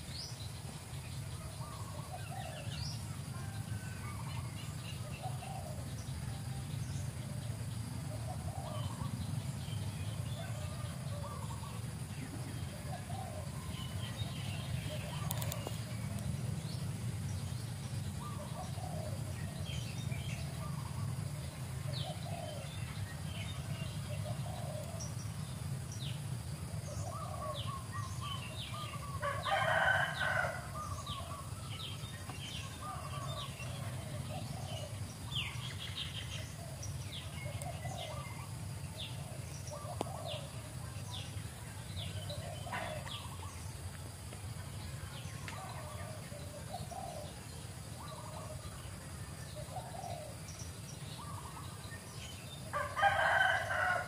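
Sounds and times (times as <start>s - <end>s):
steady low hum: 0.0s - 53.0s
birds chirping and clucking: 0.0s - 54.0s.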